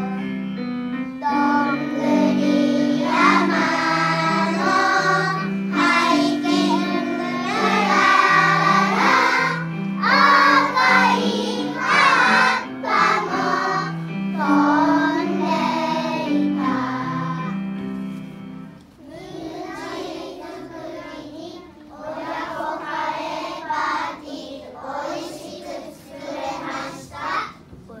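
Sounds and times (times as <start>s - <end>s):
children's choir singing: 0.0s - 0.4s, 1.2s - 18.3s, 19.0s - 27.7s
instrumental accompaniment: 0.0s - 27.7s.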